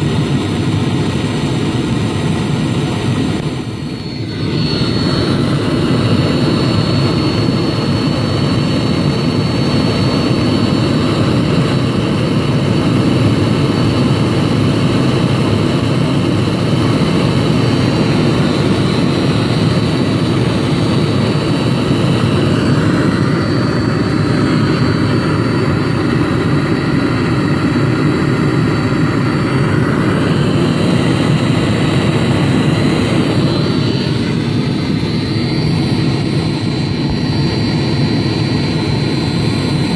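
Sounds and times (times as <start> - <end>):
heater burner roaring: 0.0 - 39.9
thin high whine: 0.0 - 39.9.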